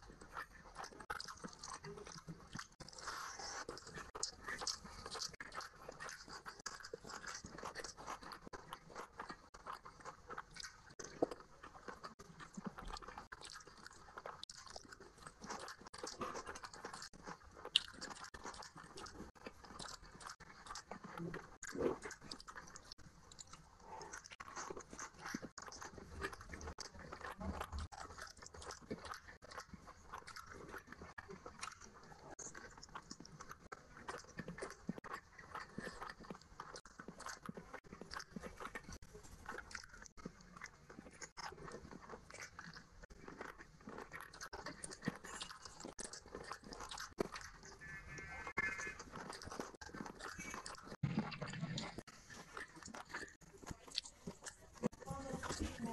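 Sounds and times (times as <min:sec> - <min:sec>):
wet chewing mouth sounds: 0:00.0 - 0:55.9.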